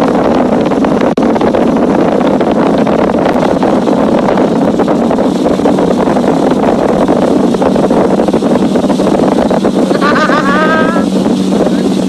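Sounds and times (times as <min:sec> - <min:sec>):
outboard motor running: 0:00.0 - 0:12.0
rushing wake water: 0:00.0 - 0:12.0
wind on microphone: 0:00.0 - 0:12.0.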